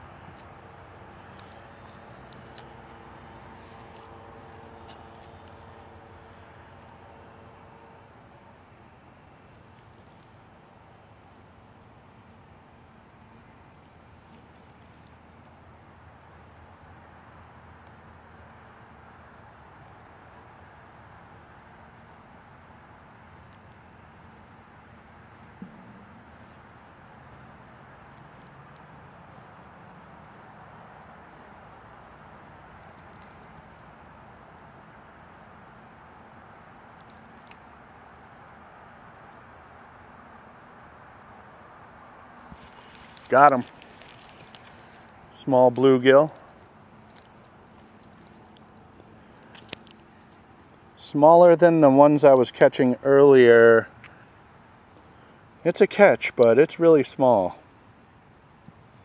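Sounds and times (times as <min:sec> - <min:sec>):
background hiss: 0:00.0 - 0:59.0
insects trilling: 0:00.0 - 0:59.0.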